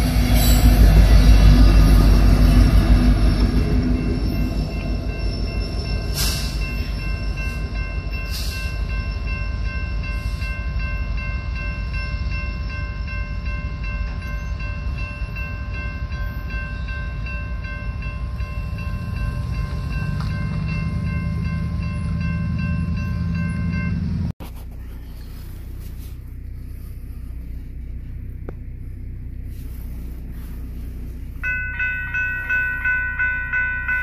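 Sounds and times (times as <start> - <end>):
railroad crossing bell ringing: 0.0 - 24.3, 29.5 - 34.0
train rumbling: 0.0 - 34.0.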